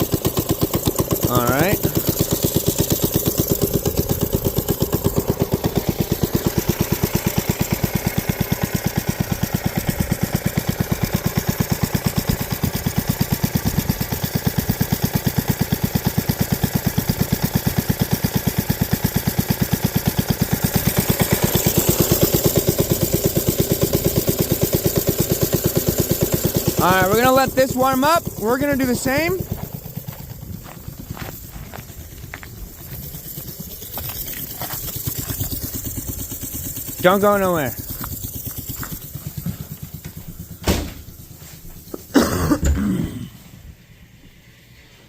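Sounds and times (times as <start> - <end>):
minibike engine idling: 0.0 - 43.0.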